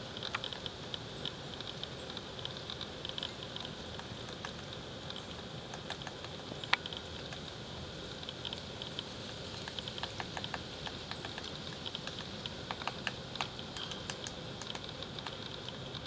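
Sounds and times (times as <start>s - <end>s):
woodpecker tapping on bark: 0.1s - 7.6s, 8.2s - 16.0s.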